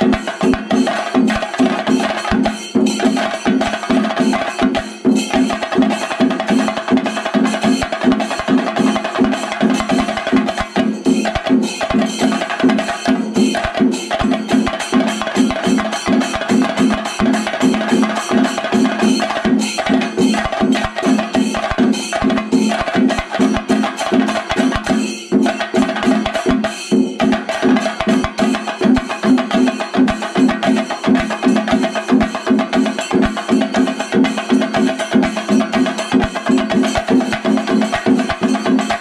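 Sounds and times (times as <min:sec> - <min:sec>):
fast drumming: 0:00.0 - 0:39.0.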